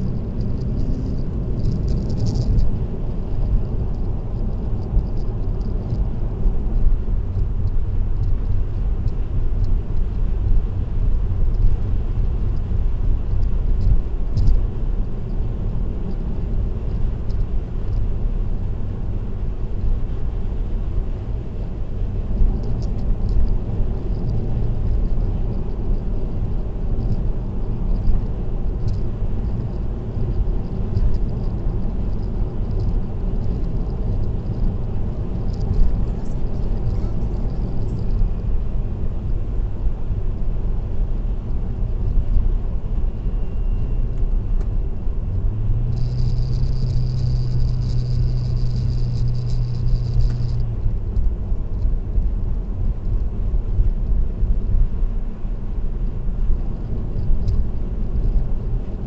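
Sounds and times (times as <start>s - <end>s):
light ticks and rattles: 0.0s - 18.8s, 21.6s - 39.4s, 44.2s - 54.8s, 56.0s - 59.0s
car road noise and engine drone: 0.0s - 59.0s.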